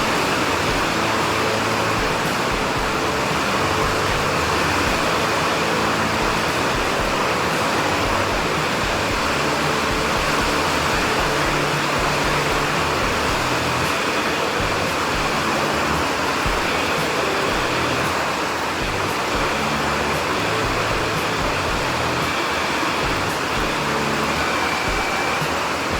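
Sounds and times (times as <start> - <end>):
heavy rain rushing: 0.0 - 25.9.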